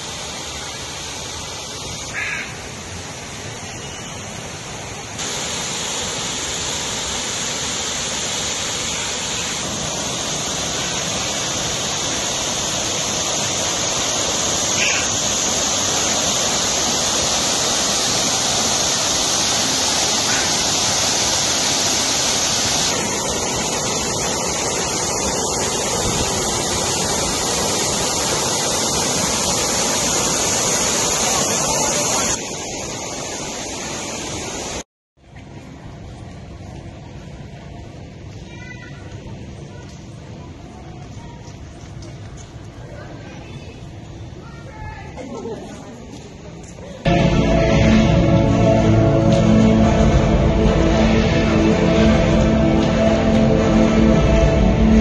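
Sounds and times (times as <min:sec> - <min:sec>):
waterfall rushing hiss: 0:00.0 - 0:34.8, 0:45.2 - 0:55.0.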